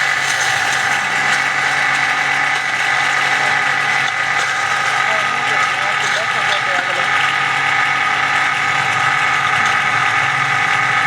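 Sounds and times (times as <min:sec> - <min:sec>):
electric grinder whining: 0:00.0 - 0:11.0.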